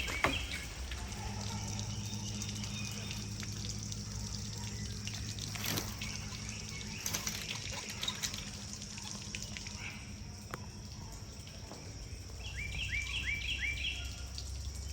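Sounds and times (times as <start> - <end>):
steady low hum: 0.0 - 14.9
water trickling and splashing: 0.0 - 14.9.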